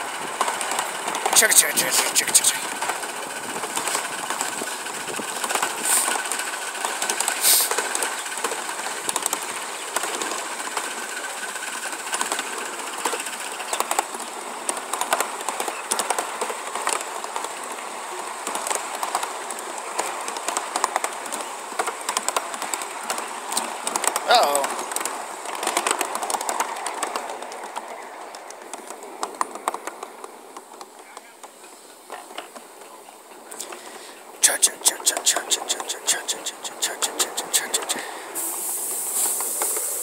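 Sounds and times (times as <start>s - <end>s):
miniature train rolling on rails: 0.0s - 40.0s
wheels clicking over rails: 0.0s - 40.0s.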